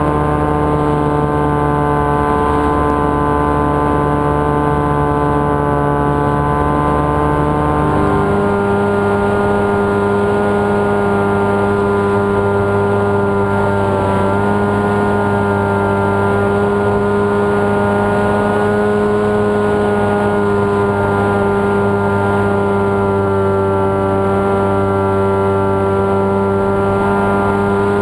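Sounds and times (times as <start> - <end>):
electric motor and propeller hum: 0.0 - 28.0.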